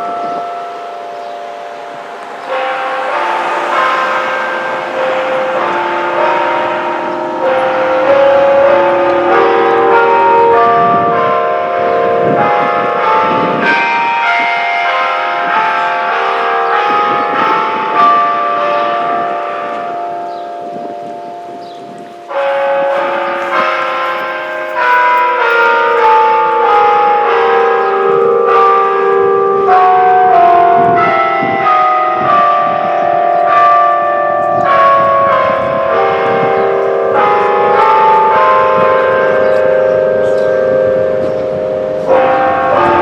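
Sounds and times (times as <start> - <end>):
tower bells ringing: 0.0 - 43.0.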